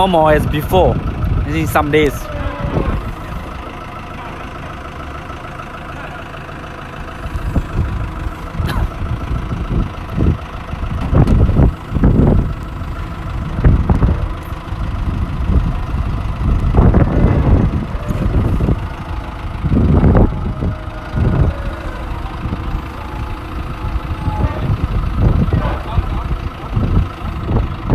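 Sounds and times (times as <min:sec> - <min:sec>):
engine running: 0:00.0 - 0:27.9.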